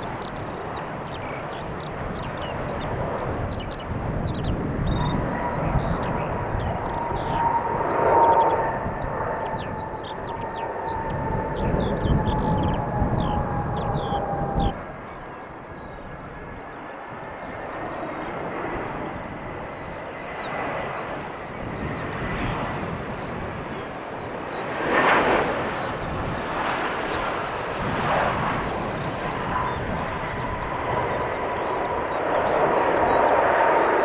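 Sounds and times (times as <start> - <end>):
jet engines rushing: 0.0 - 34.0.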